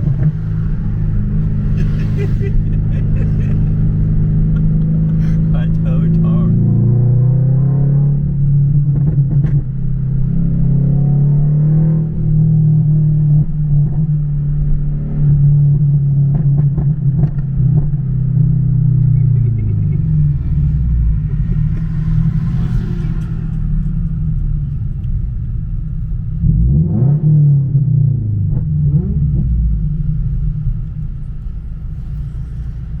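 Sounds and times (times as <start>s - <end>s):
car engine and exhaust droning: 0.0s - 33.0s.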